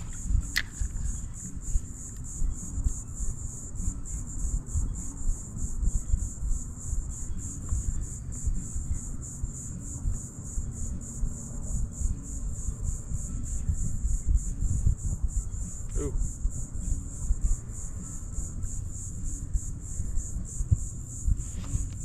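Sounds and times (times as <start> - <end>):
pulsing insect chorus: 0.0 - 22.0
wind rumble on microphone: 0.0 - 22.0.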